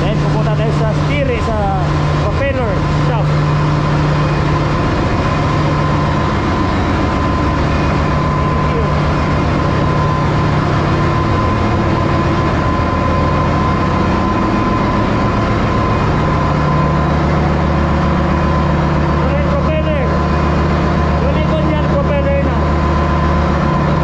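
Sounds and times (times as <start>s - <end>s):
engine room machinery drone: 0.0s - 24.0s
thin steady whine: 0.0s - 24.0s.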